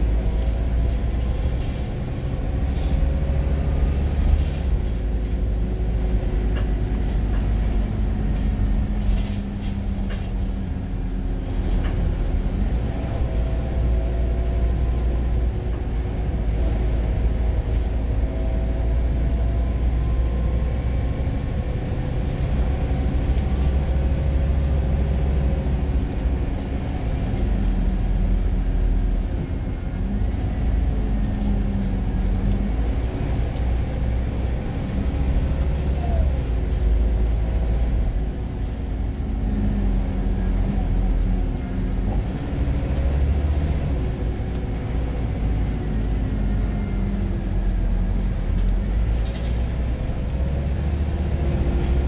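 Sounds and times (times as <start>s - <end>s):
coach engine drone: 0.0s - 52.0s
road rumble: 0.0s - 52.0s.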